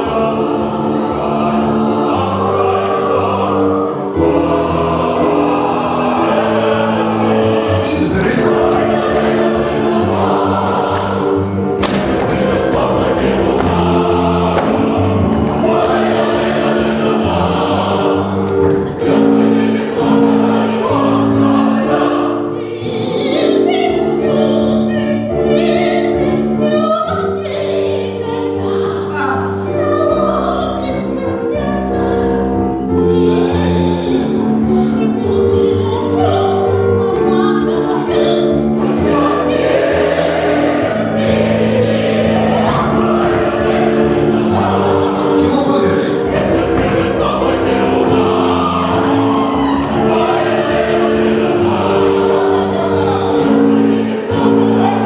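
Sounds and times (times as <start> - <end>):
choir singing held chords: 0.0 - 55.0.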